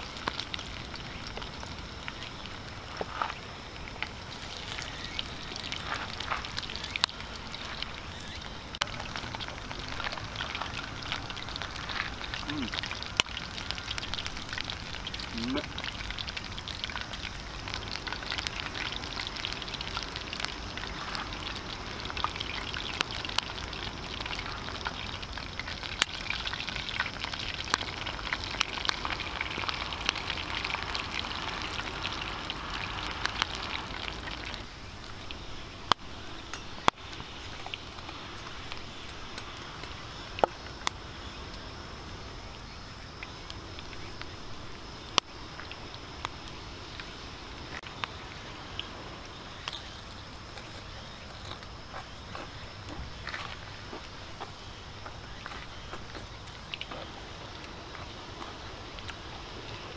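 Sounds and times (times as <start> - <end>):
hot oil sizzling: 0.0 - 59.9.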